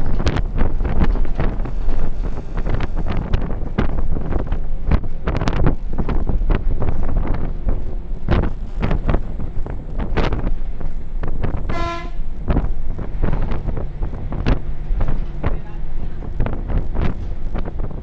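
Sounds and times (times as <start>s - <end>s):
gusty wind on microphone: 0.0s - 18.0s.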